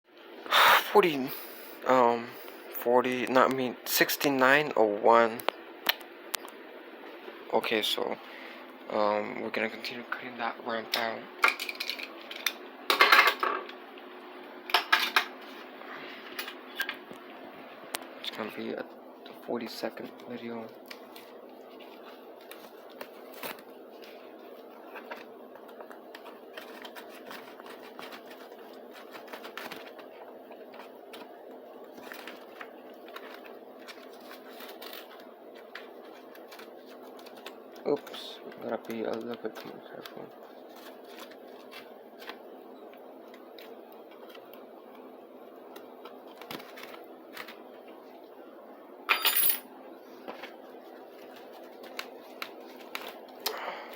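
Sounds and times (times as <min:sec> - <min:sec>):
steady background hum: 0:00.1 - 0:53.9.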